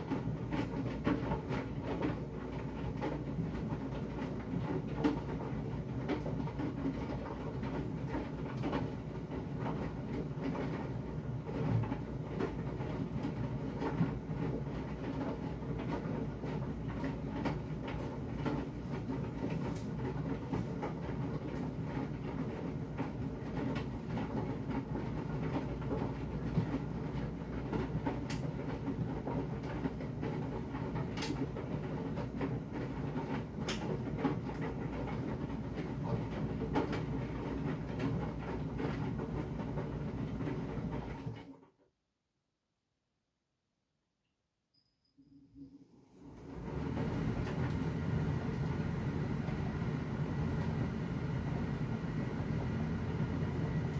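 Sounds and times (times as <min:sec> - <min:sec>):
tumble dryer running: 0:00.0 - 0:41.5, 0:46.1 - 0:53.9.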